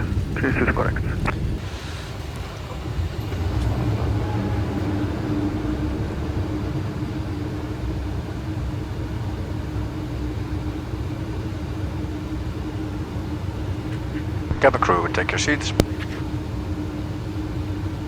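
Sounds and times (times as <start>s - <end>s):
airflow rush: 0.0s - 18.0s
constant low hum: 0.0s - 18.0s
engine rumble: 0.0s - 18.0s.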